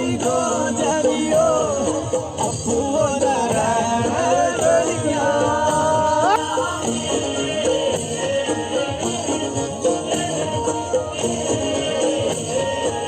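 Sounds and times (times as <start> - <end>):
folk song melody: 0.0 - 13.0
jingling percussion: 0.0 - 13.0.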